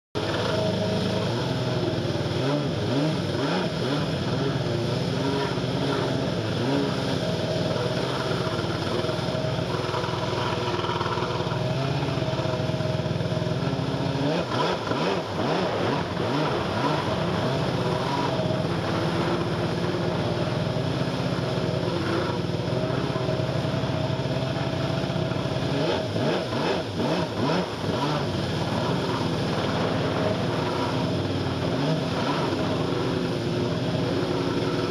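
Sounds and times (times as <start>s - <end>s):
jet ski engine running: 0.2s - 34.9s
water rushing and spray: 0.2s - 34.9s.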